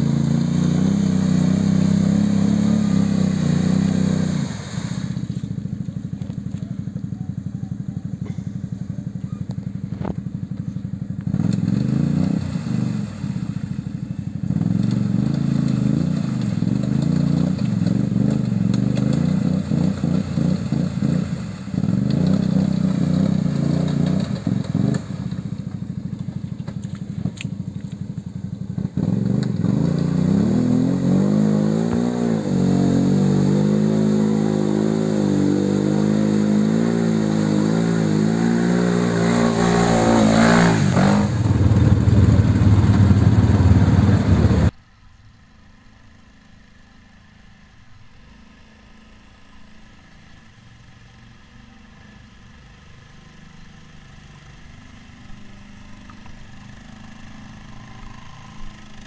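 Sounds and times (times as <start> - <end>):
quad bike engine revving: 0.0 - 44.8, 52.6 - 59.0.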